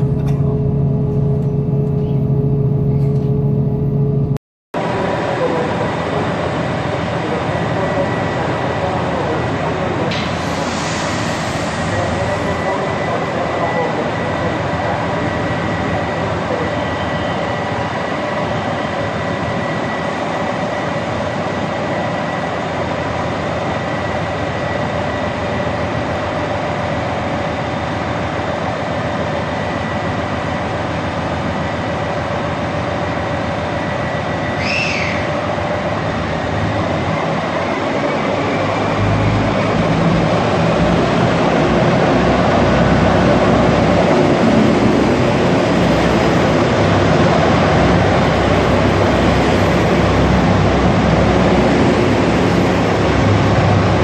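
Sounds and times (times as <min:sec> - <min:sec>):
diesel train engines powering up: 0:00.0 - 0:54.0.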